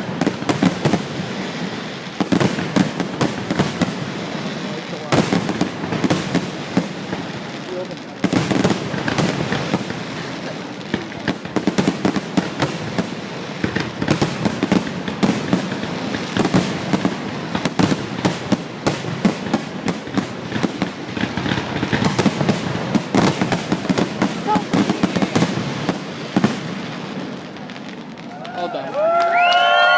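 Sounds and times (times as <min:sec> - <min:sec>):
fireworks barrage: 0:00.0 - 0:29.9.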